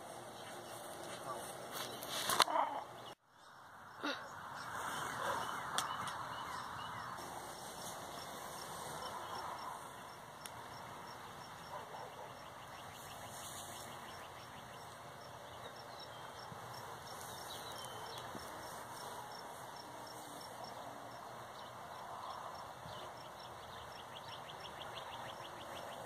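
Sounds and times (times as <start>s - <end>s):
birds chirping: 0.0s - 26.0s
insects chirping: 3.3s - 26.0s.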